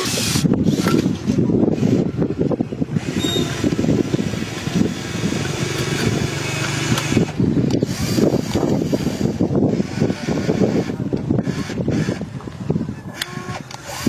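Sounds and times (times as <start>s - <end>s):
small electric motors running: 0.0s - 12.4s, 13.0s - 14.0s.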